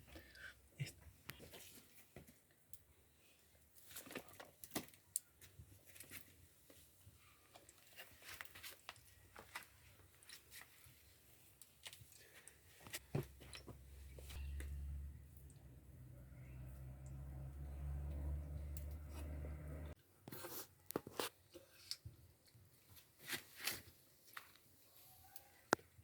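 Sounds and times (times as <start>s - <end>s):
faint eating sounds: 0.0s - 22.9s.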